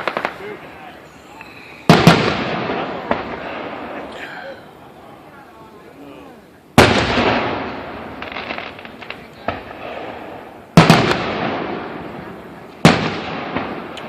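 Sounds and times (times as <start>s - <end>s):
fireworks booming with echo: 0.0s - 4.5s, 6.7s - 14.0s.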